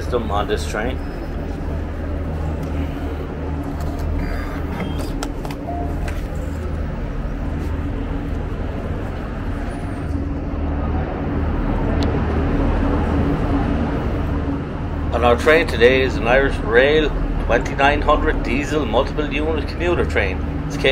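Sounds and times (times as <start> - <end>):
diesel trains idling: 0.0 - 20.9.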